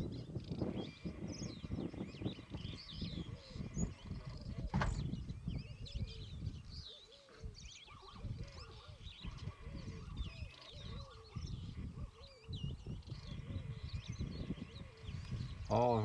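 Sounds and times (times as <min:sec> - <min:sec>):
birds chirping and whistling: 0:00.0 - 0:16.0
repeated low bird call: 0:00.0 - 0:16.0.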